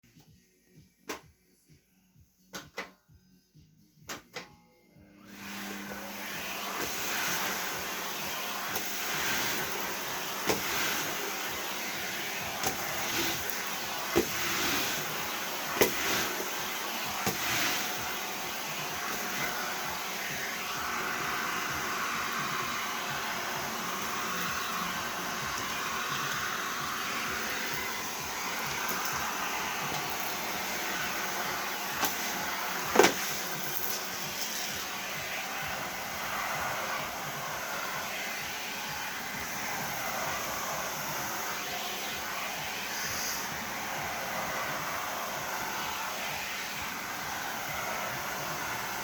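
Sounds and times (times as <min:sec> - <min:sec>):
vacuum cleaner running: 0:04.1 - 0:49.0.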